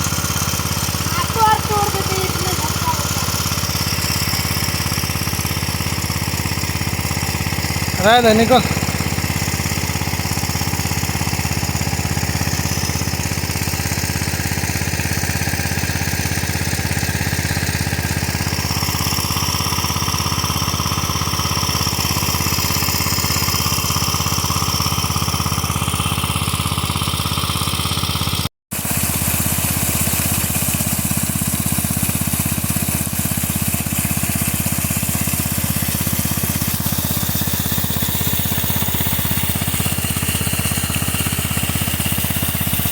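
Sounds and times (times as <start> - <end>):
pump engine chugging: 0.0 - 42.9.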